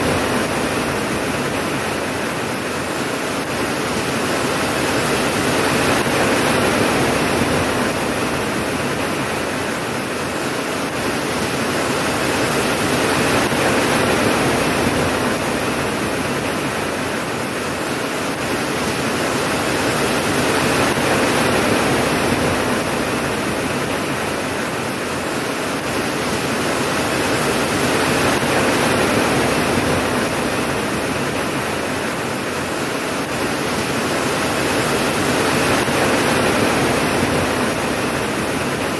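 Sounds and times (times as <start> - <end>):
heavy rainfall: 0.0 - 38.9.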